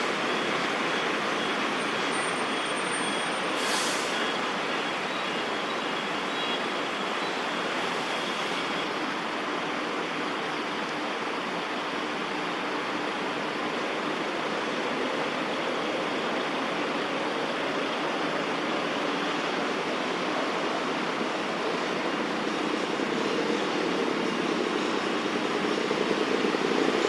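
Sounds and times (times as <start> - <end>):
distant city traffic hum: 0.0 - 27.0.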